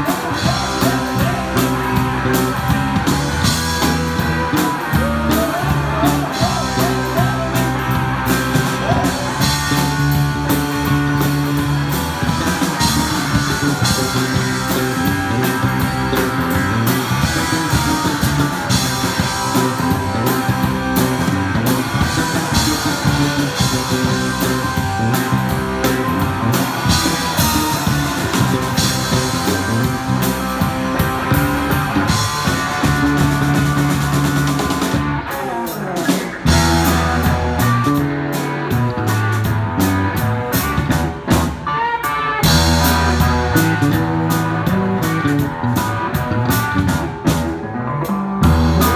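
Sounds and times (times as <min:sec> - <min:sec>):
drums hitting: 0:00.0 - 0:41.6, 0:42.4 - 0:47.7, 0:48.4 - 0:48.9
live rock band playing: 0:00.0 - 0:48.9.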